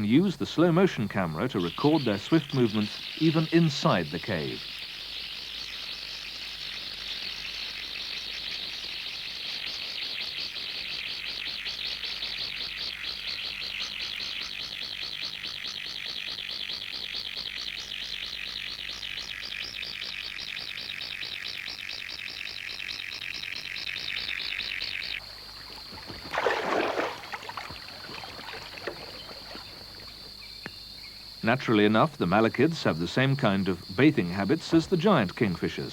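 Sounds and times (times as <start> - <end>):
high insect trill: 0.0 - 35.9
insect chorus pulsing: 0.0 - 35.9.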